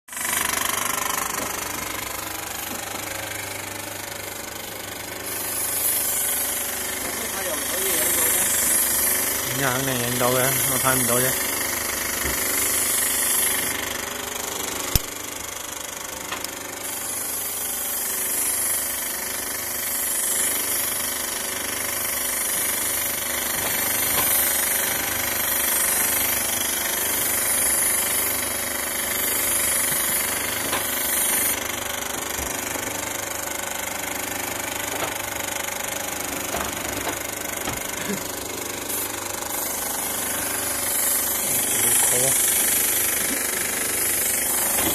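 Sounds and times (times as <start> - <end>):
electric paint sprayer running: 0.1 - 44.9.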